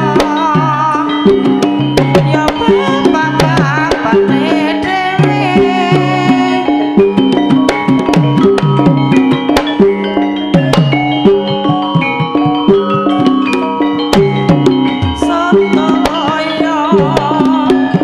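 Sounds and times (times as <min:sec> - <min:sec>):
hand drum strokes: 0:00.0 - 0:18.0
wavering melodic line: 0:00.0 - 0:18.0.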